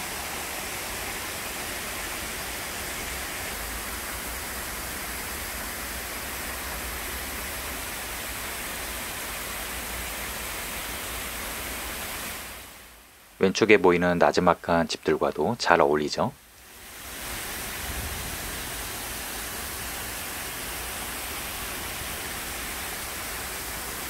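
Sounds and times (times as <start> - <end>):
waterfall rushing into pond: 0.0 - 24.0.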